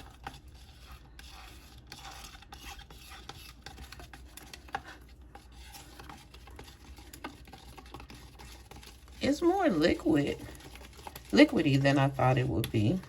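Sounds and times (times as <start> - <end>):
stir stick scraping a cup: 0.0 - 13.0.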